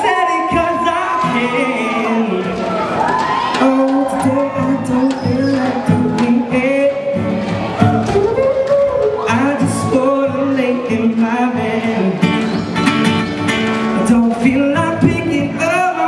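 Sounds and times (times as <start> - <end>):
person singing: 0.0 - 2.7, 3.4 - 12.6, 13.8 - 16.0
acoustic guitar: 0.0 - 16.0.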